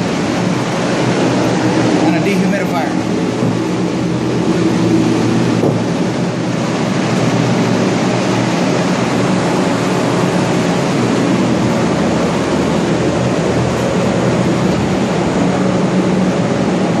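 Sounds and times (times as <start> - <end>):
blower fans rushing air: 0.0 - 17.0
low motor hum: 0.0 - 17.0.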